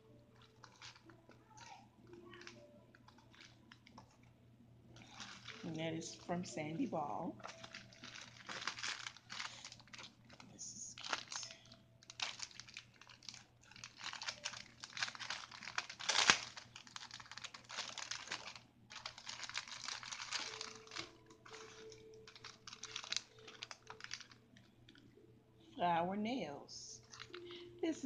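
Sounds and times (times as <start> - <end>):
cellophane packets crinkling: 0.0 - 4.3, 4.9 - 25.2, 27.0 - 27.8.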